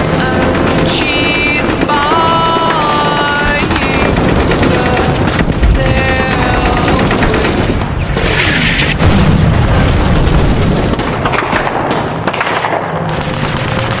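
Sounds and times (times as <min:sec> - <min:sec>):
continuous low rumble: 0:00.0 - 0:14.0
heavy explosions booming: 0:00.0 - 0:14.0.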